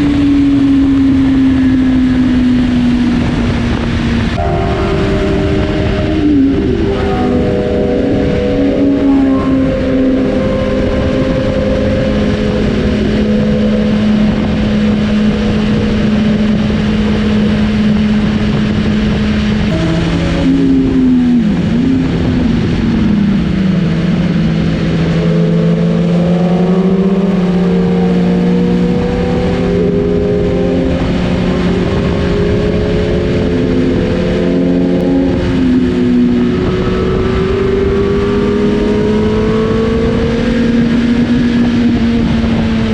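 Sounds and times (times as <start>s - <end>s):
motorcycle engine cruising: 0.0s - 42.9s
other motorcycle engines: 0.0s - 42.9s
wind and road noise: 0.0s - 42.9s.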